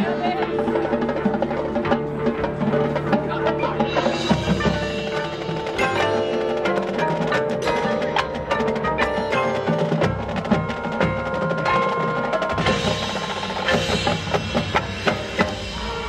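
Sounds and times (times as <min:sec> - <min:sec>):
marching band playing: 0:00.0 - 0:16.0
sharp percussion strikes: 0:00.4 - 0:16.0.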